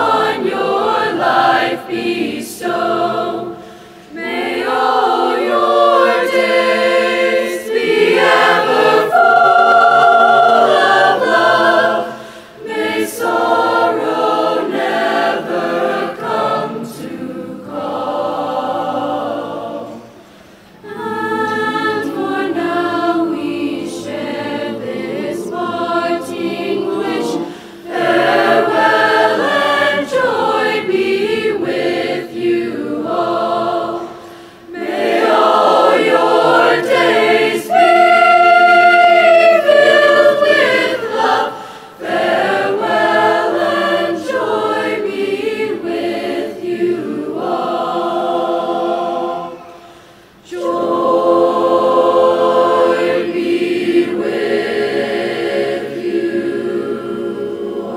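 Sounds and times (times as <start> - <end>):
choir singing: 0.0 - 57.9.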